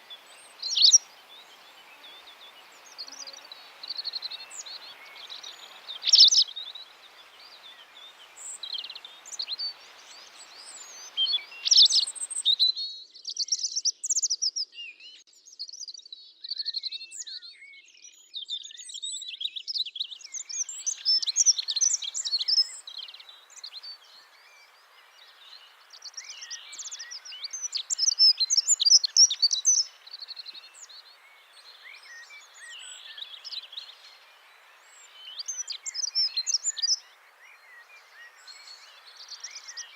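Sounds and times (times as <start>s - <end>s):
steady background hiss: 0.0s - 12.7s, 20.4s - 39.9s
songbirds chirping and trilling: 0.0s - 39.9s.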